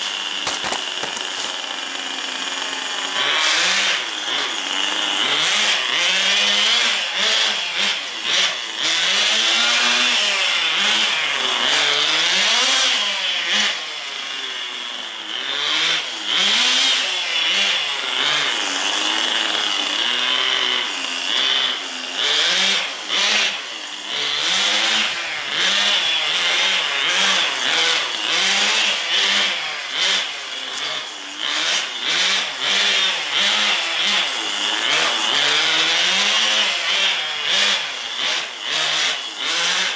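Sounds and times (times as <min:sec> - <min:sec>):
rc car engine running: 0:00.0 - 0:39.9.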